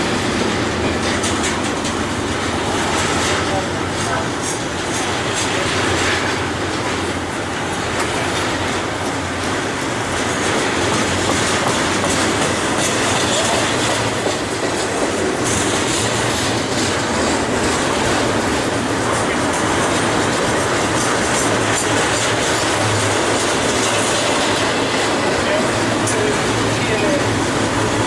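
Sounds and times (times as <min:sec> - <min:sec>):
freight train wheels on rail: 0:00.0 - 0:28.0.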